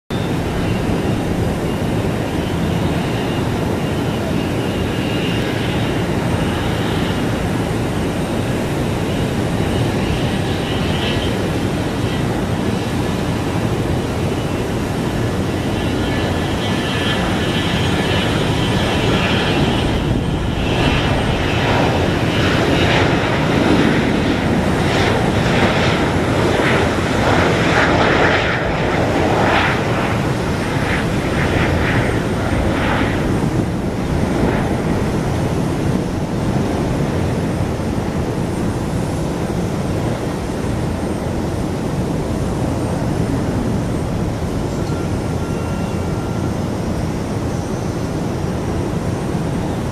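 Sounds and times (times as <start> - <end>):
jet taking off: 0.1 - 49.9.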